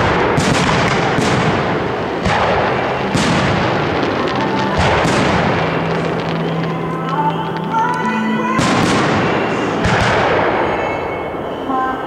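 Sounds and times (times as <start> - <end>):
firework shells booming: 0.0 - 11.7.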